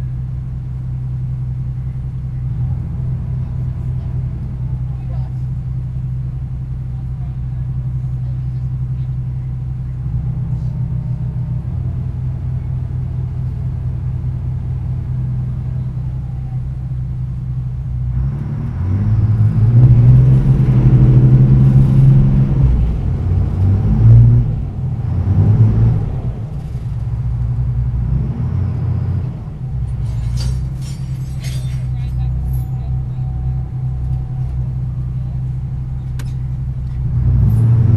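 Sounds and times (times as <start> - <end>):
ferry engine rumbling: 0.0 - 37.9.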